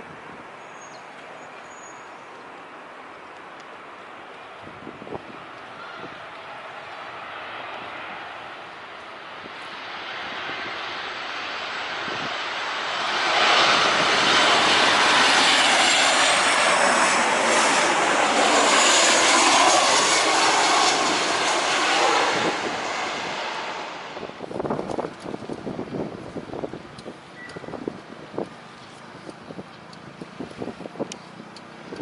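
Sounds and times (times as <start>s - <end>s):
high jet engine whine: 0.0s - 32.0s
jet airliner passing overhead: 3.8s - 32.0s.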